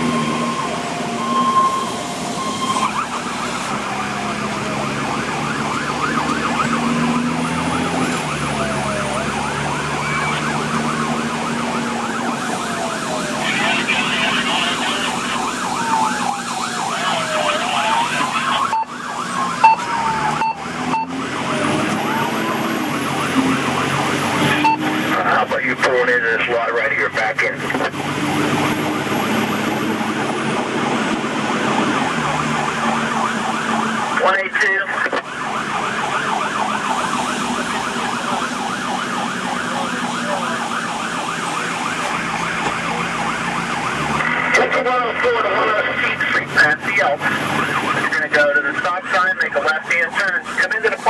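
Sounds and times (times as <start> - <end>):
fast yelp siren: 0.0 - 51.0
fire engine drone: 0.0 - 51.0
rising and falling siren wail: 0.0 - 51.0.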